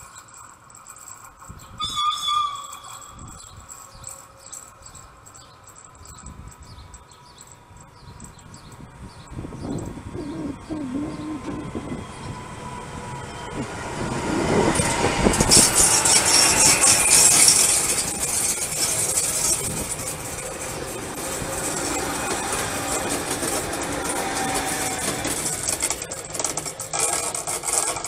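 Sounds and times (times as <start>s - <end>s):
train wheels rumbling and clattering: 0.0s - 10.3s, 11.1s - 28.0s.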